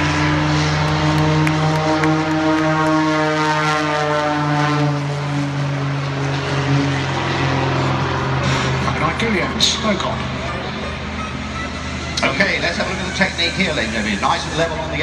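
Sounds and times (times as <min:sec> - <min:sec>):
propeller plane engine at full power: 0:00.0 - 0:15.0.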